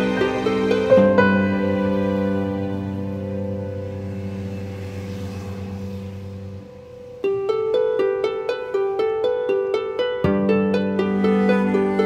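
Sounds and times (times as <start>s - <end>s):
plucked harp-like notes: 0.0s - 4.4s, 6.5s - 12.0s
soft held chord: 0.0s - 12.0s.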